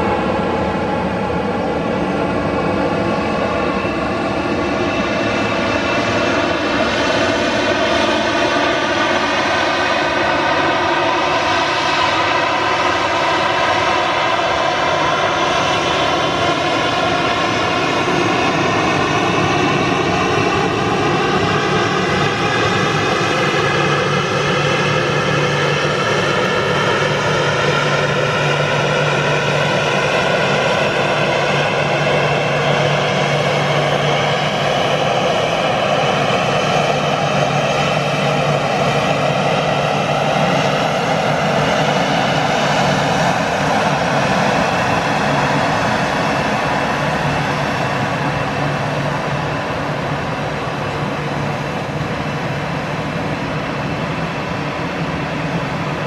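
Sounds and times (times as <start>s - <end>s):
jet engines running loudly: 0.0s - 56.0s.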